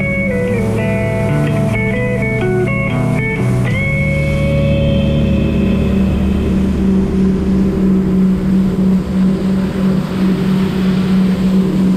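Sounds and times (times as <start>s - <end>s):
watercraft engine droning: 0.0s - 11.9s.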